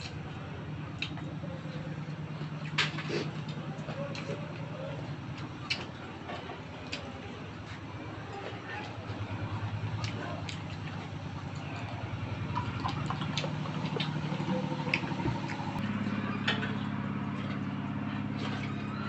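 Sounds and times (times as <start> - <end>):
engine running with pulsing hum: 0.0 - 19.0.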